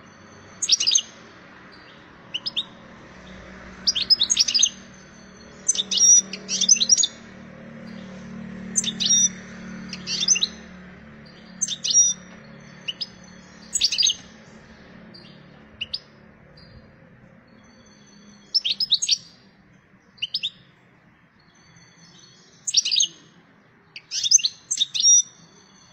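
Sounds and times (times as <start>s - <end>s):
goldfinch twittering song: 0.0s - 25.9s.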